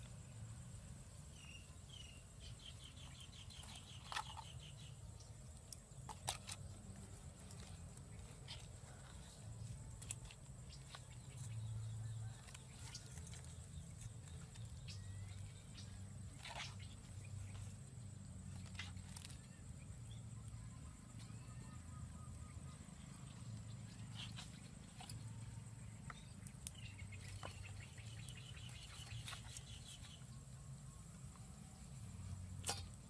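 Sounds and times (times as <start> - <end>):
faint bird chirps: 1.2 - 32.9.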